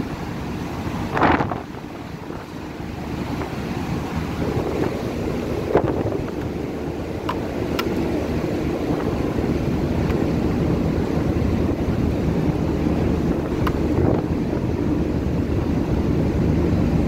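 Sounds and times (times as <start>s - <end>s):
sea noise: 0.0s - 17.0s
wind buffeting microphone: 0.0s - 17.0s.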